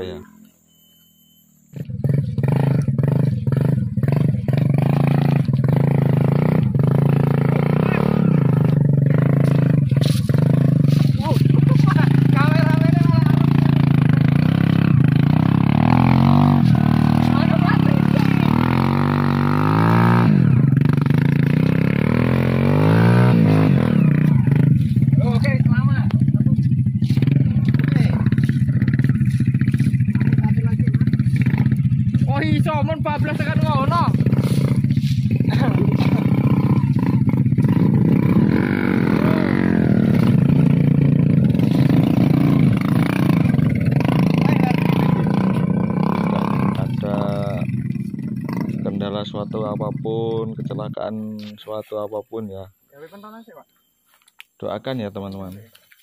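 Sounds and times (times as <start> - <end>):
small motorcycle engine revving: 1.7 - 51.2.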